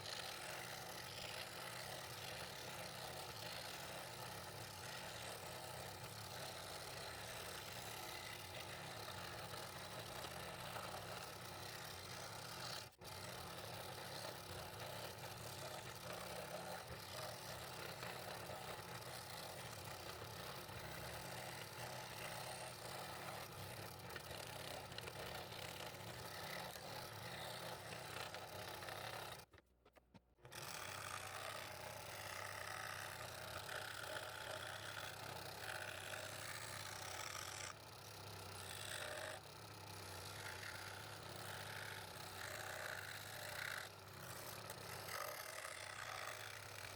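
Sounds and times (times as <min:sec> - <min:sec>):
scroll saw cutting wood: 0:00.0 - 0:46.9.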